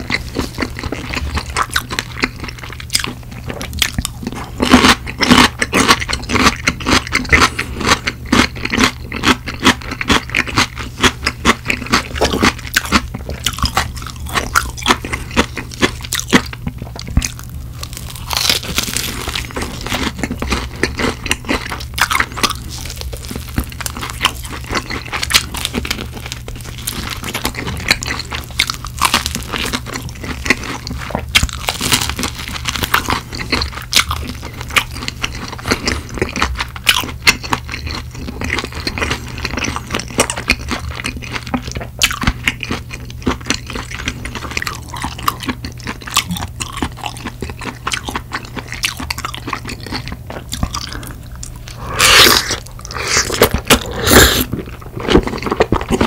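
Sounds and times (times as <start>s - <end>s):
crisp crunching and chewing: 0.0s - 56.0s.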